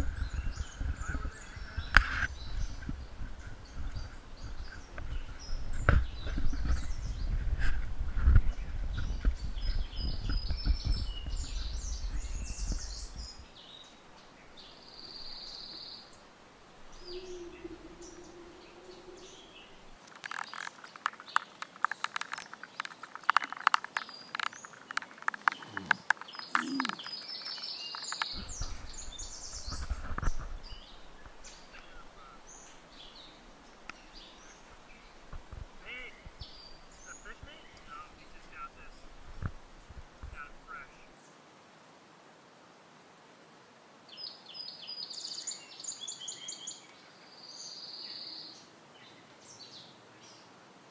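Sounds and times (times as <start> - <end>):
campfire crackling: 0.0 - 41.1
small birds chirping: 0.0 - 41.4, 44.1 - 50.6.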